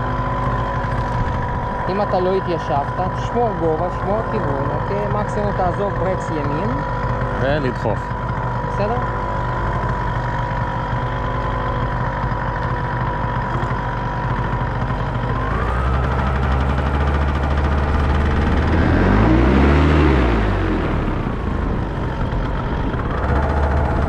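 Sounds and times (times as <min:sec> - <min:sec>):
paramotor engine droning: 0:00.0 - 0:24.0.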